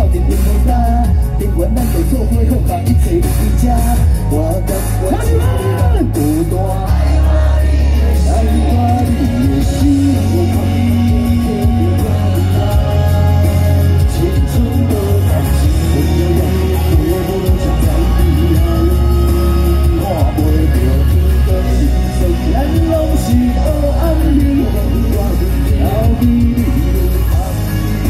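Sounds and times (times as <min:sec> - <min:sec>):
backing track with bass beat: 0:00.0 - 0:28.0
men singing through pa: 0:02.4 - 0:28.0.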